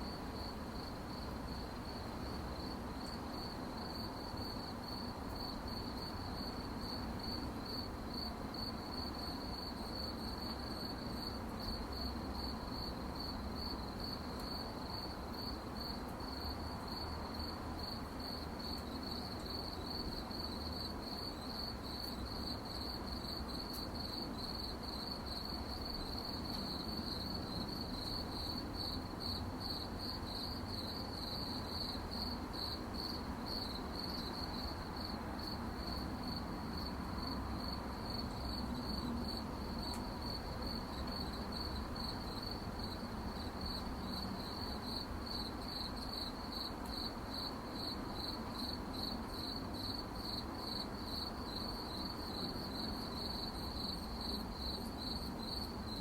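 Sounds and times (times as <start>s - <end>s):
crickets chirping: 0.0s - 56.0s
low background noise: 0.0s - 56.0s.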